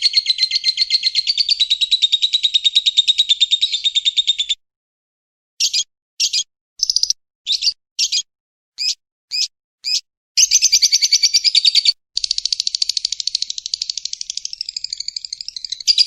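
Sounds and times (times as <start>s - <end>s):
fast rattling bird trills: 0.0s - 4.5s, 5.6s - 8.2s, 8.8s - 16.0s
shrill bird chirps: 0.0s - 4.6s, 5.6s - 16.0s.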